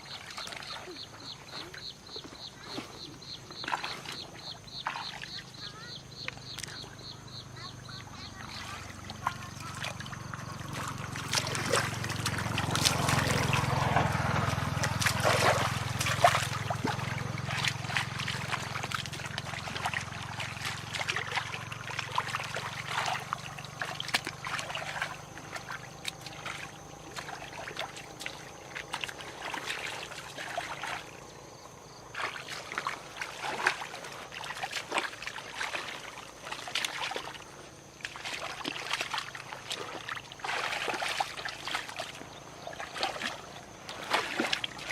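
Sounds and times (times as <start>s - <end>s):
water splashing and trickling: 0.0s - 44.9s.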